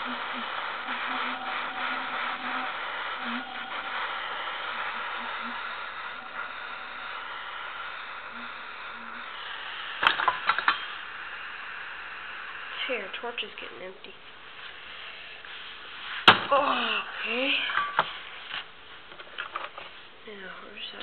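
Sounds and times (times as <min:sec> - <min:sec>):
gas torch hissing: 0:00.0 - 0:21.0.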